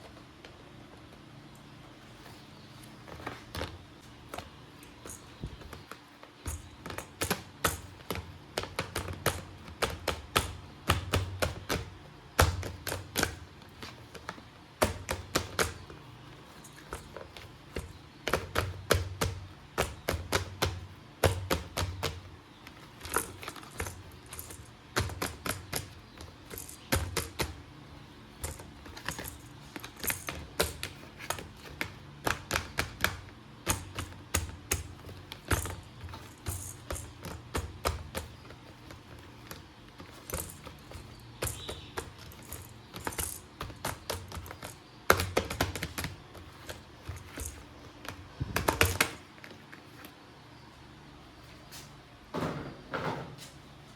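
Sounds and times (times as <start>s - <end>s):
hard plastic toys clicking and tapping: 2.7s - 50.2s.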